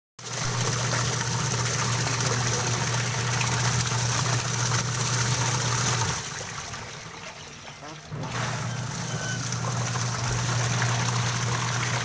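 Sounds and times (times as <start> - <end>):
washing machine motor hum: 0.2 - 12.0
water churning in tub: 0.2 - 12.0.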